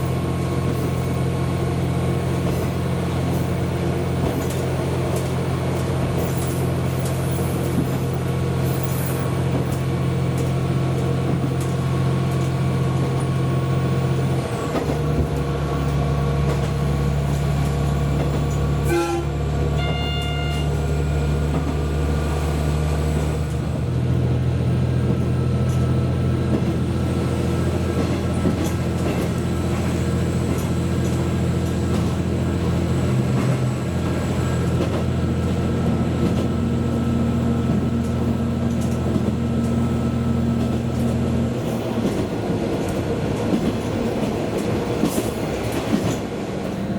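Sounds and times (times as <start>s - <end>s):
train running drone: 0.0s - 46.9s.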